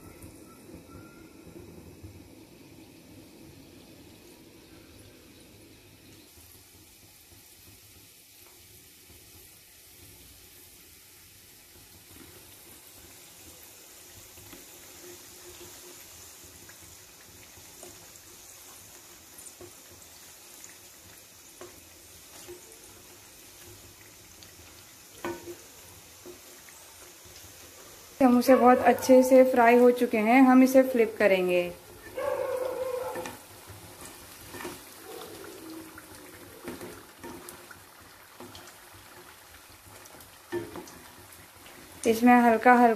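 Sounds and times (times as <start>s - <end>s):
food deep-frying in oil: 0.0s - 42.9s.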